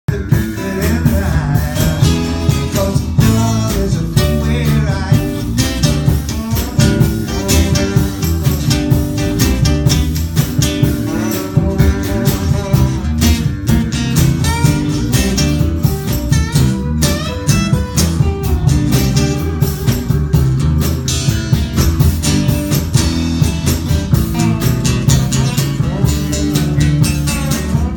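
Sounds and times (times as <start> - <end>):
guitar: 0.0 - 27.9
blues band playing: 0.1 - 27.9
drum hits: 0.1 - 27.9.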